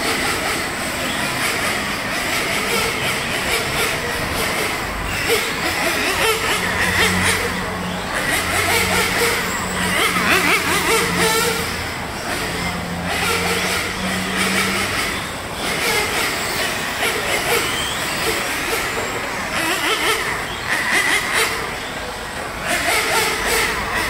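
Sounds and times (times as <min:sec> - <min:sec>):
electric rc car motors whining: 0:00.0 - 0:24.0.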